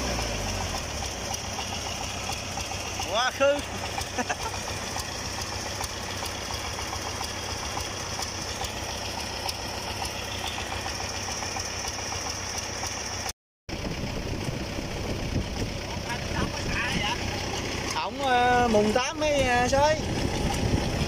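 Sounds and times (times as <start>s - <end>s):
diesel engine knocking steadily: 0.0s - 21.0s.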